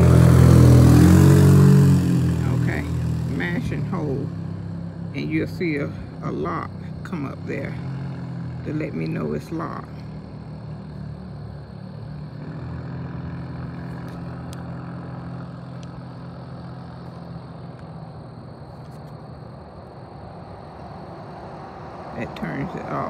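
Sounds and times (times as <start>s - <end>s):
car engine humming: 0.0s - 23.0s
road traffic hiss: 0.0s - 23.0s.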